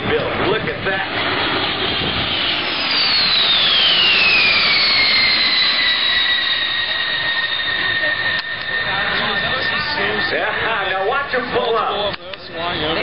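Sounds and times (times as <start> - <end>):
jet roar with high whine: 0.0 - 13.0.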